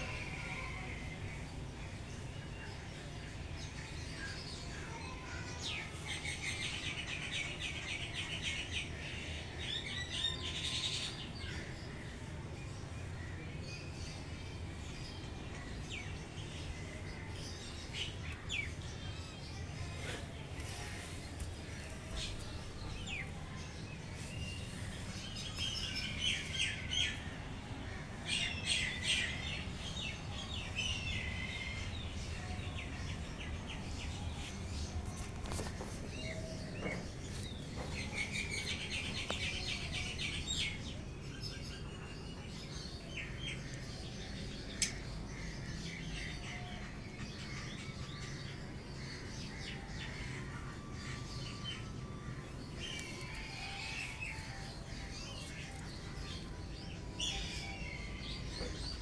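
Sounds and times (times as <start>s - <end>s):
low steady background hum: 0.0s - 59.0s
small birds chirping: 0.0s - 59.0s.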